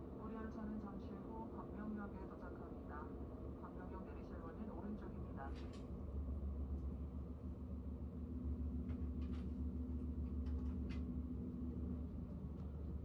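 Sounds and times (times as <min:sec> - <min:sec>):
train cabin low rumble: 0:00.0 - 0:13.0.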